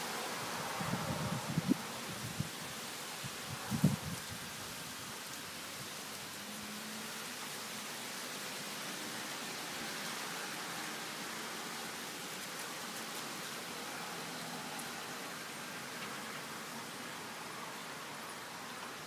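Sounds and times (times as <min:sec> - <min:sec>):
leaves rustling: 0:00.0 - 0:19.0
wind blowing through trees: 0:00.0 - 0:19.0.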